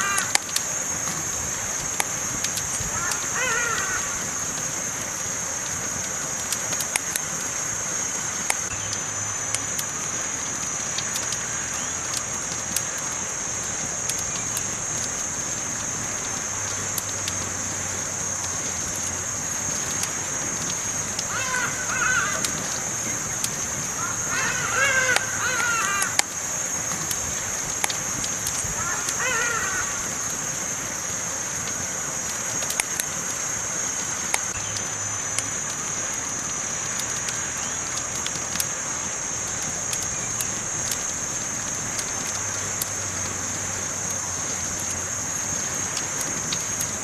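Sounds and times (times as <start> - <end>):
campfire crackling: 0.0 - 47.0.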